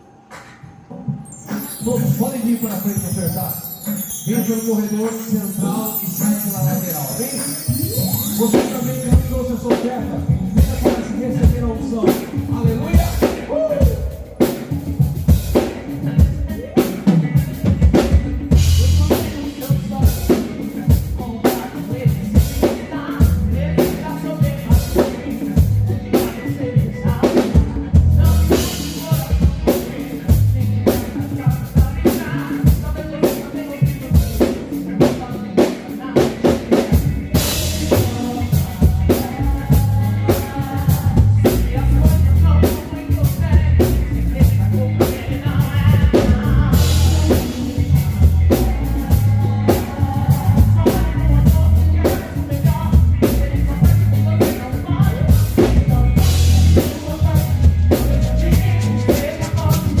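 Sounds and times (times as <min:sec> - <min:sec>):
band music with drum kit: 0:00.0 - 1:00.0.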